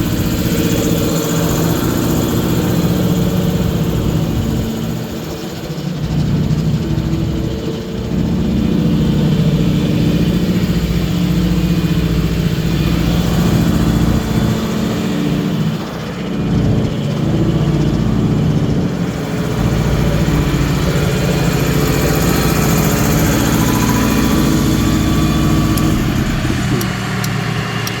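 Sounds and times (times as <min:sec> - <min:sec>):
diesel truck engine running: 0:00.0 - 0:28.0.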